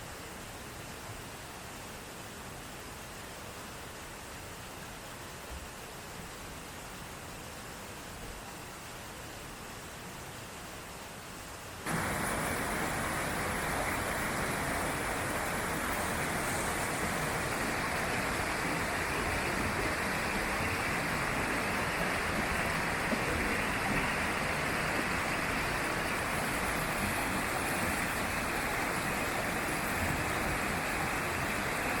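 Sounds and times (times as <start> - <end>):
steady rushing noise: 3.5 - 32.0.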